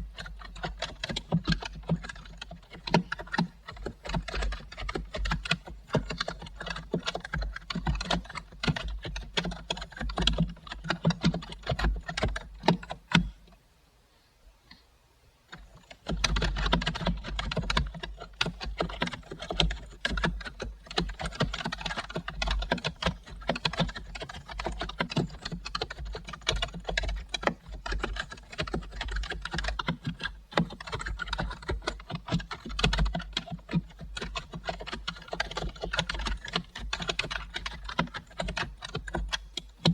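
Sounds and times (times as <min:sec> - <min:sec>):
typing on computer keyboard: 0:00.0 - 0:13.4, 0:15.5 - 0:39.9.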